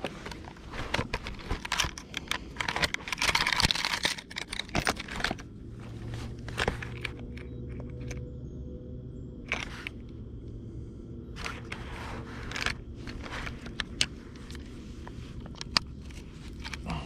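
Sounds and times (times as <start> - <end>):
clicks rustles and crinkles: 0.0 - 8.3, 9.4 - 10.2, 11.3 - 17.0
faint low hum: 0.0 - 17.0.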